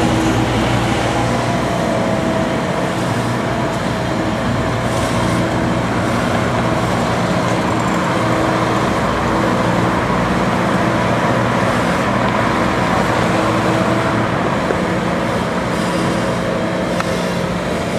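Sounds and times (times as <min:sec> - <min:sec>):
litter vacuum engine droning: 0:00.0 - 0:17.9.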